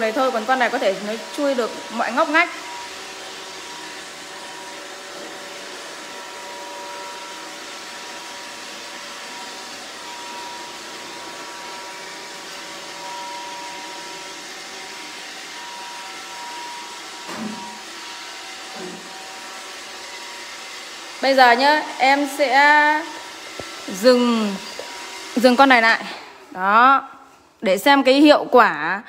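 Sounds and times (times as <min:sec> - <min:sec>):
robot vacuum whirring: 0:00.0 - 0:27.0.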